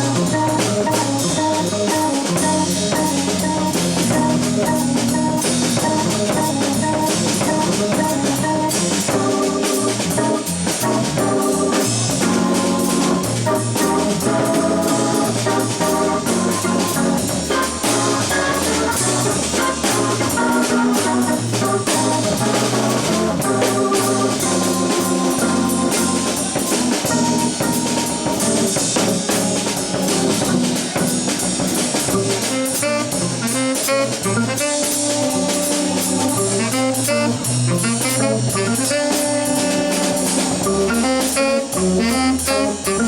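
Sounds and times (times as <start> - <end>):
drum kit and cymbals: 0.0 - 43.0
jazz trio playing: 0.0 - 43.0
melody notes: 0.0 - 43.0.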